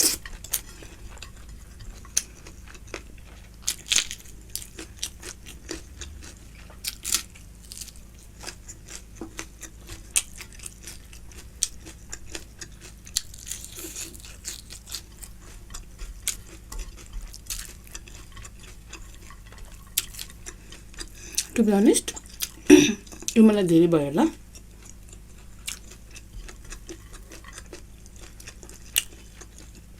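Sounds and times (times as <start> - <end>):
close chewing of food: 0.0 - 23.6, 24.2 - 29.9.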